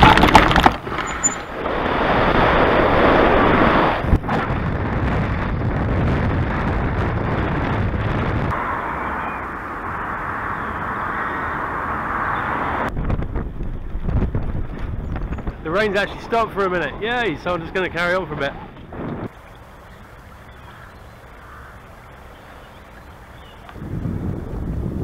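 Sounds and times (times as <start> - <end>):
wind rushing over microphone: 0.0 - 19.4, 23.5 - 25.0.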